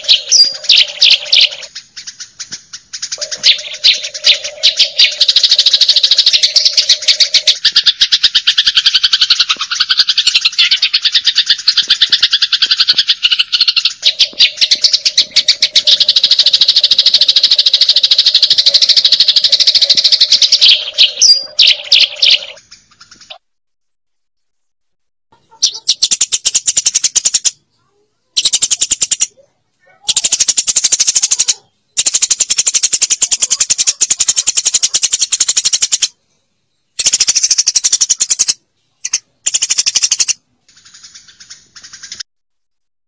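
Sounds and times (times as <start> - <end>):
sparrows chirping: 0.0 - 23.4, 25.4 - 42.2.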